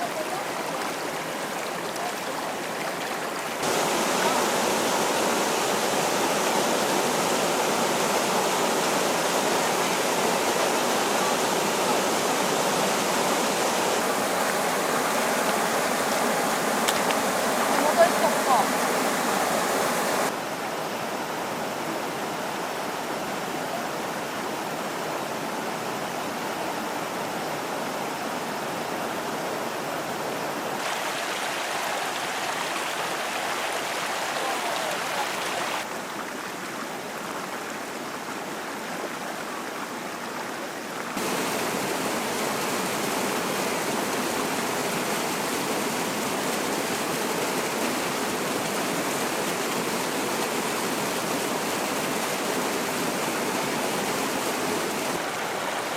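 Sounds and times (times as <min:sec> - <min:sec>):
stream rushing: 0:00.0 - 0:55.9.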